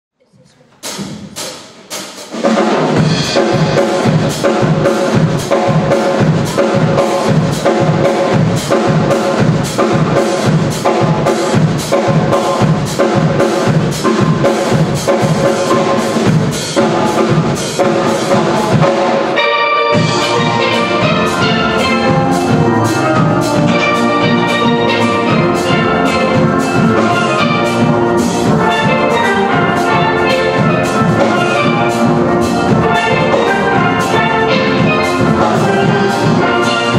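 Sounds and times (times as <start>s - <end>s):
steel band playing calypso: 0.8s - 36.9s.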